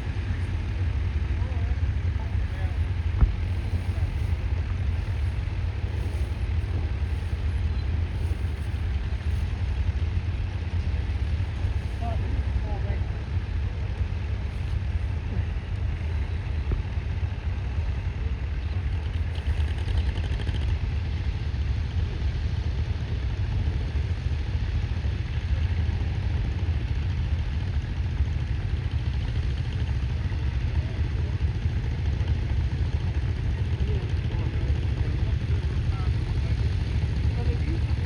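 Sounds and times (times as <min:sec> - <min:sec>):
tractor engine rumbling: 0:00.0 - 0:38.0.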